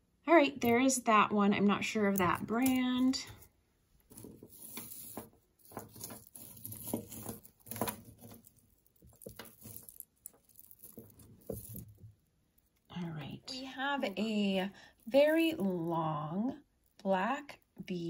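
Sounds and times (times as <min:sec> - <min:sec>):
jewelry clicking and rustling: 0:02.0 - 0:18.0.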